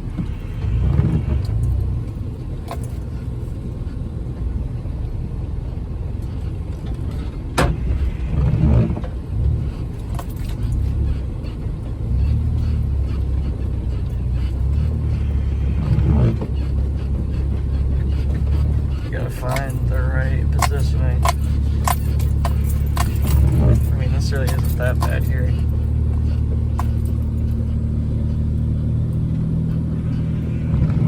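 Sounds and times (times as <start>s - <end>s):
vehicle engine low drone: 0.0s - 31.0s.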